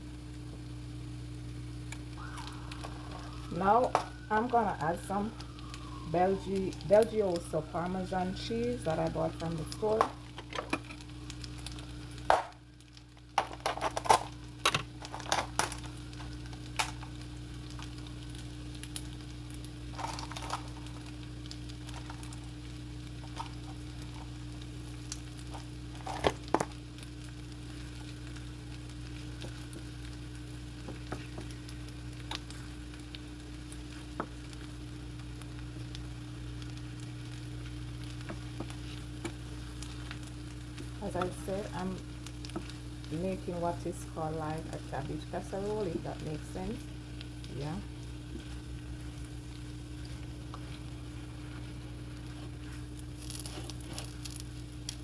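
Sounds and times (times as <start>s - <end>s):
food sizzling in a skillet: 0.0s - 55.0s
steady low hum: 0.0s - 55.0s.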